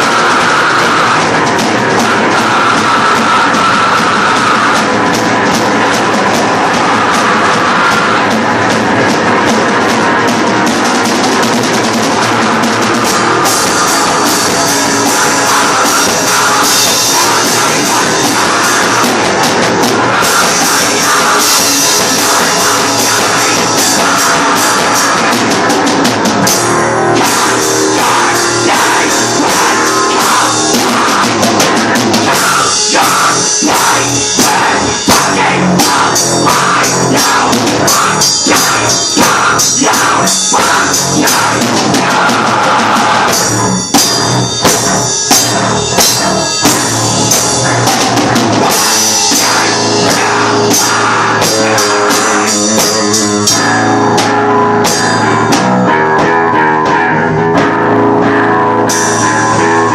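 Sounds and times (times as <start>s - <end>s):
drum hits: 0.0s - 59.9s
heavy rock band playing: 0.0s - 59.9s.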